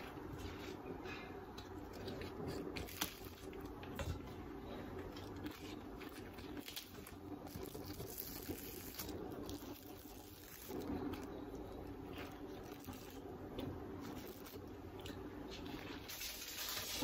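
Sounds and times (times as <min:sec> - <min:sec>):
lettuce and cling film crinkling: 0:01.7 - 0:17.0.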